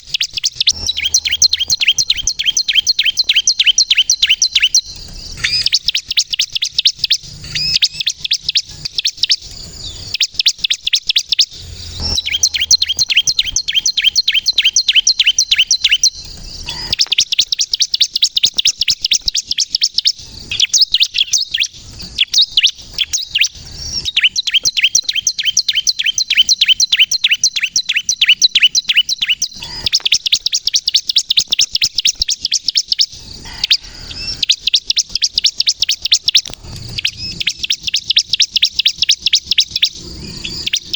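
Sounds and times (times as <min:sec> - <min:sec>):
bird chattering trills: 0:00.0 - 0:40.9.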